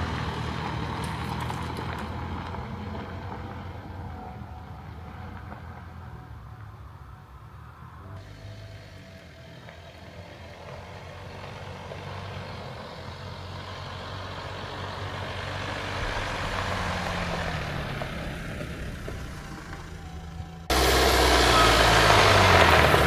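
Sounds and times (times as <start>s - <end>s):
road noise: 0.0s - 23.0s
vehicle engine humming: 0.0s - 23.0s.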